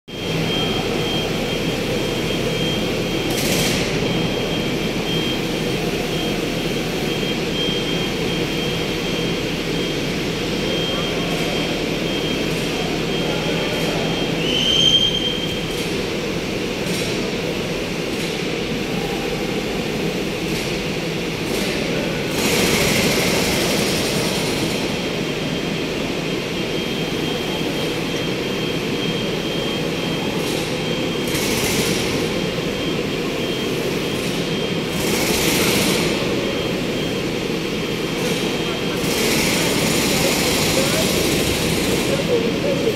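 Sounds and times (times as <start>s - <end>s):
high machine whine: 0.1s - 42.9s.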